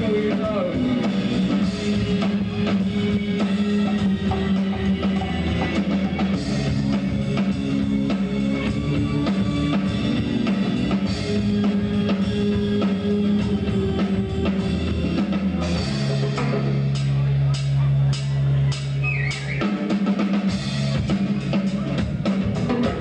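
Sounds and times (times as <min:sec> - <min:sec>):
drum kit beat: 0:00.0 - 0:23.0
guitars playing: 0:00.0 - 0:23.0.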